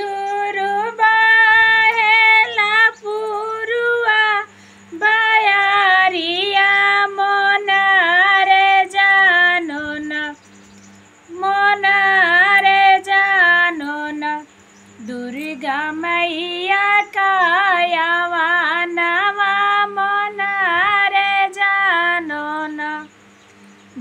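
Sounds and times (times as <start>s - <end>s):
woman singing unaccompanied: 0.0s - 24.0s.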